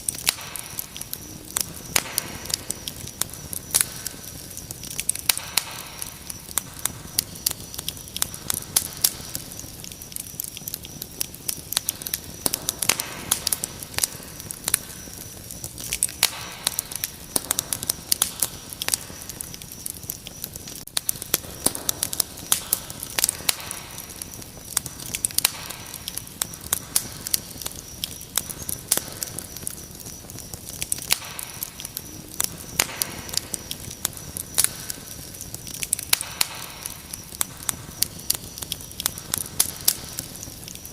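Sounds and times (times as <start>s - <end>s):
cricket trill: 0.0s - 40.9s
wood fire crackling and popping: 0.0s - 40.9s.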